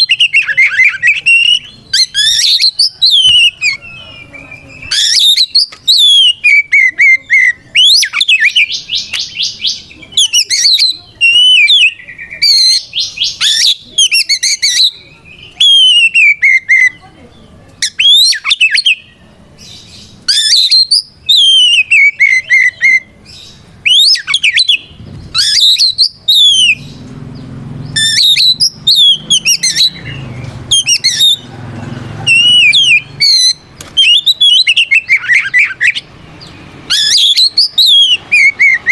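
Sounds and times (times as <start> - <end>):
songbird singing whistles and trills: 0.0 - 31.5, 32.2 - 38.9.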